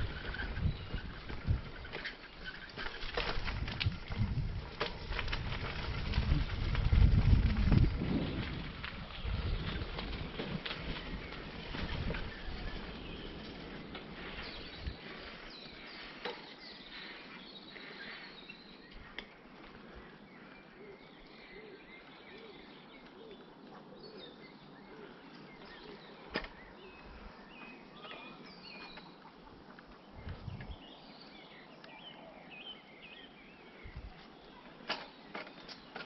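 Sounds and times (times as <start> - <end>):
birds chirping: 0.0 - 5.1, 5.7 - 36.0
bicycle tyres rolling over gravel: 0.0 - 31.8.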